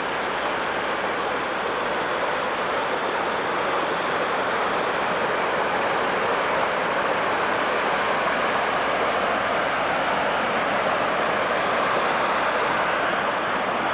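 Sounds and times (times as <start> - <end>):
fast-flowing water rushing: 0.0 - 13.9.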